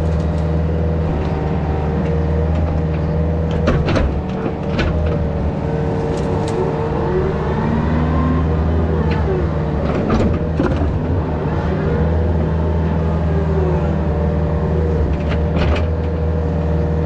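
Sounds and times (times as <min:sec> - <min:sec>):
excavator diesel engine: 0:00.0 - 0:17.0.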